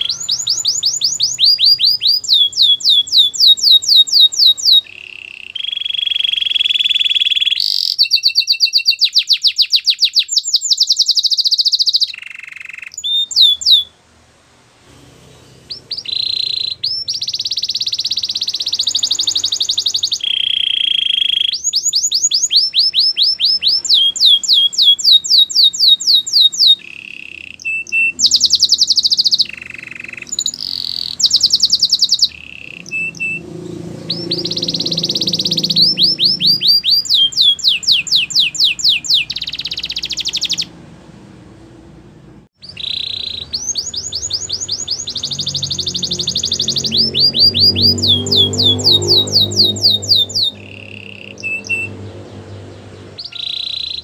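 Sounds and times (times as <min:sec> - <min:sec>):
canary singing trills: 0:00.0 - 0:14.0, 0:15.2 - 0:40.8, 0:42.6 - 0:54.0.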